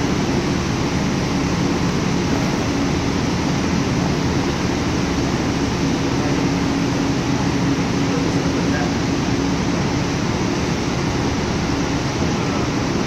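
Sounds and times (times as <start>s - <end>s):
steady droning noise: 0.0s - 13.0s.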